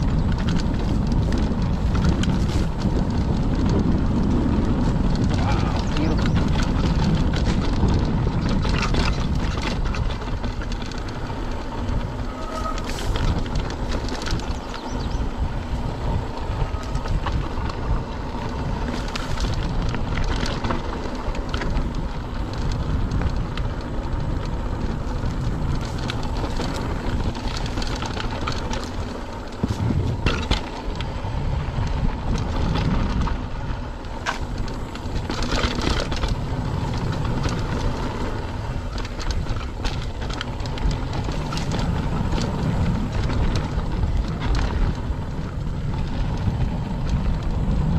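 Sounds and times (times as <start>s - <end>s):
bike clicks and rattles: 0.0s - 47.9s
tyres on dirt: 0.0s - 47.9s
wind rumble on microphone: 0.0s - 47.9s.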